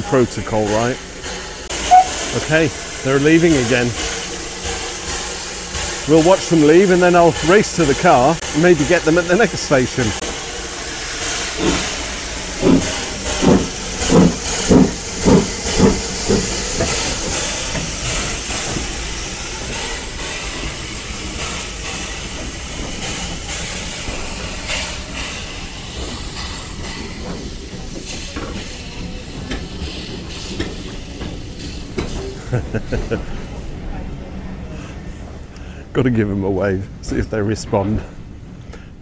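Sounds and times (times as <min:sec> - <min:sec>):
steam hissing: 0:00.0 - 0:33.9
steam locomotive exhaust chuffs: 0:00.0 - 0:34.0.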